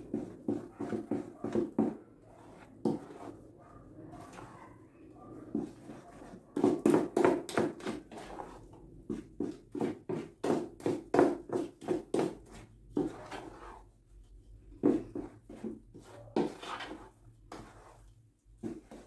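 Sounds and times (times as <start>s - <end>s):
wooden spoon beating batter in bowl: 0.0s - 3.6s, 5.3s - 19.0s.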